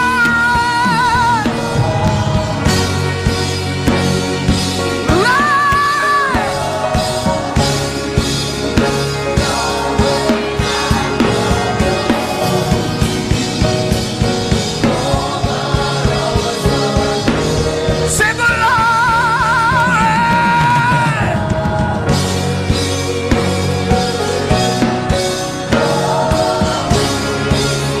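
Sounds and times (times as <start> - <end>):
band with steady drum beat: 0.0 - 28.0.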